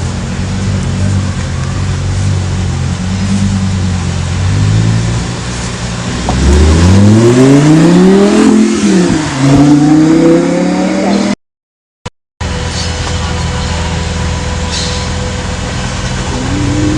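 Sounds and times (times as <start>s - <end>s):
sports car engine revving: 0.0s - 11.4s, 12.5s - 16.9s.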